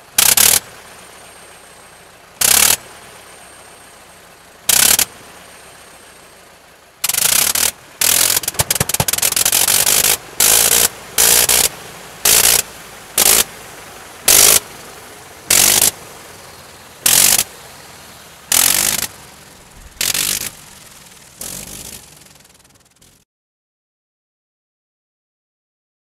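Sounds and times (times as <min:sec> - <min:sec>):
rotary aircraft engine in bursts: 0:00.0 - 0:23.2.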